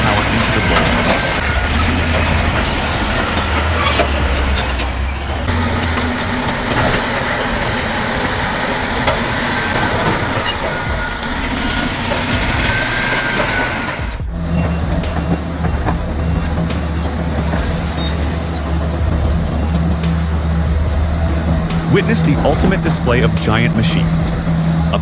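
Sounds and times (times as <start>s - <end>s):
diesel engine humming: 0.0s - 25.0s
machinery grinding and scraping: 0.0s - 25.0s.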